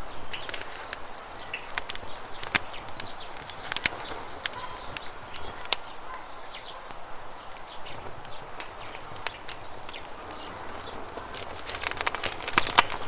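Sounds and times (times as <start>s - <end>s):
faint bird chirps: 0.0s - 12.9s
campfire crackling and popping: 0.0s - 13.0s.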